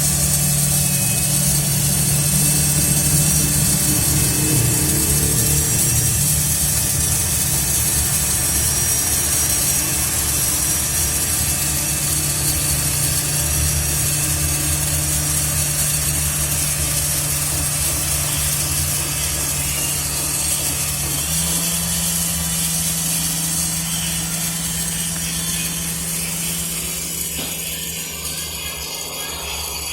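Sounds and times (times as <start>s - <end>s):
small motor whirring hum: 0.0s - 29.9s.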